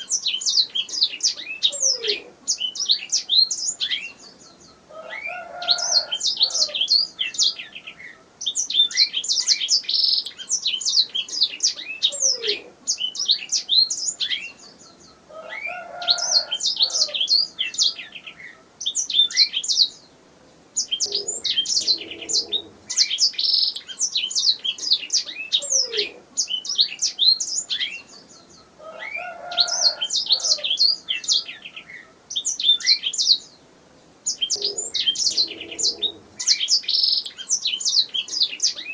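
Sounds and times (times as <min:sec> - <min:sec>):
canary singing: 0:00.0 - 0:20.1, 0:20.8 - 0:38.9.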